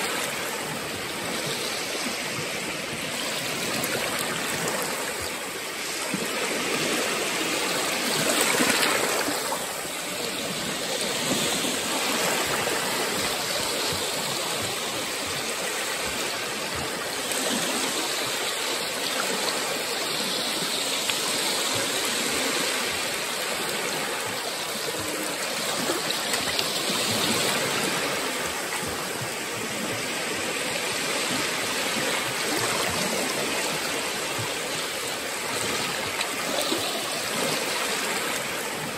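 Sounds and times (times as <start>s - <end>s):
waves washing onto beach: 0.0s - 38.9s.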